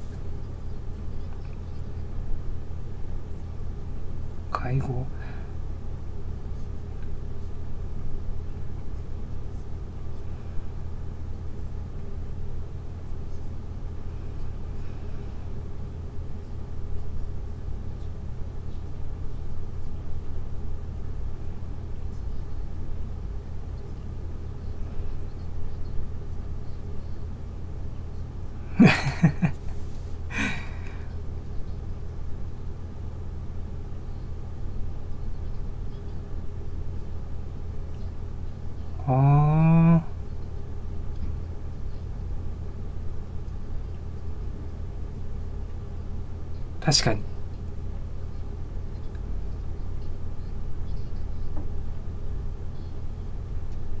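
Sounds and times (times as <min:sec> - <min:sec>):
low hum of room noise: 0:00.0 - 0:54.0.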